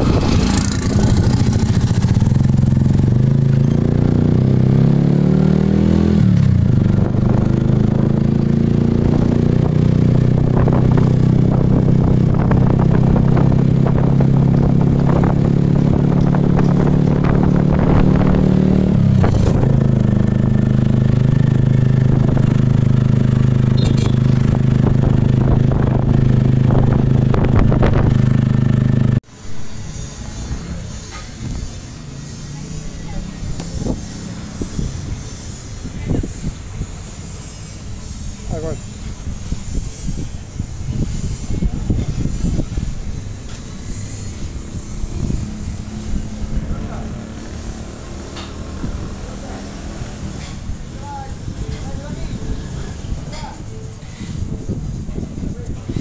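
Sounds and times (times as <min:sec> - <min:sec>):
small motorcycle engine running: 0:00.0 - 0:29.2, 0:29.8 - 0:56.0.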